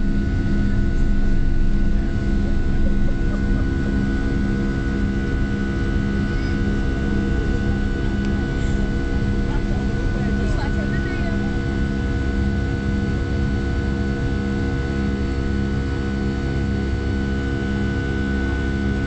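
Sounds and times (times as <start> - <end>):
jet engine drone in cabin: 0.0 - 19.0.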